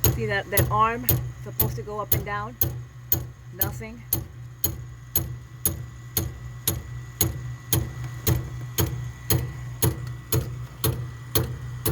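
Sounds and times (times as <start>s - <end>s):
low steady hum: 0.0s - 11.9s
pellet stove clicking: 0.0s - 11.9s.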